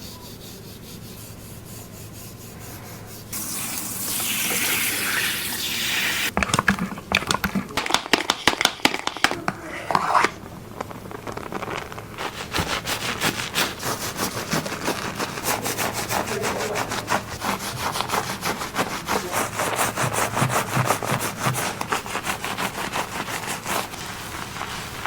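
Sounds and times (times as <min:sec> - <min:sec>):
fingers scratching through hair: 0:00.0 - 0:03.4, 0:07.8 - 0:25.0.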